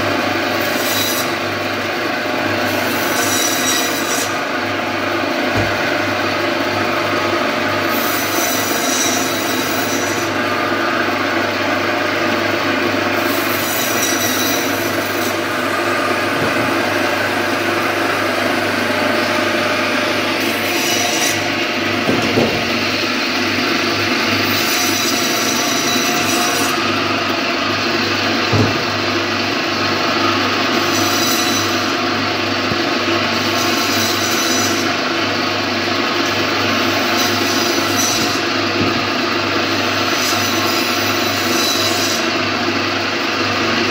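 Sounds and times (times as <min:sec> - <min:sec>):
band saw motor hum: 0:00.0 - 0:43.9.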